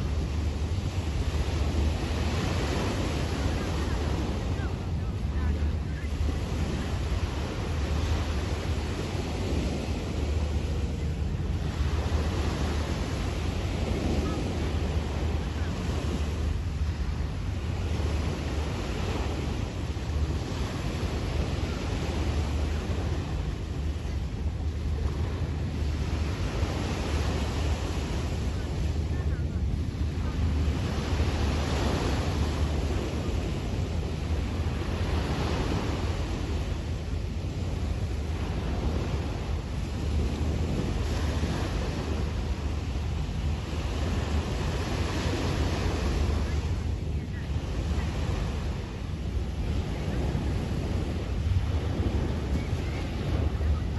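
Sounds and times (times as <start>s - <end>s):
waves washing onto beach: 0.0s - 53.9s
wind buffeting microphone: 0.0s - 53.9s.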